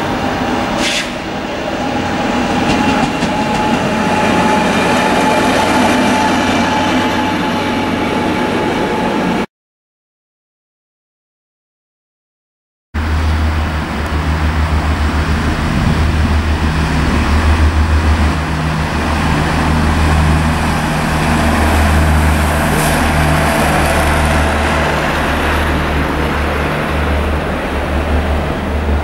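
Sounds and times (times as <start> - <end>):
train rumbling past: 0.0 - 9.5, 13.0 - 29.0.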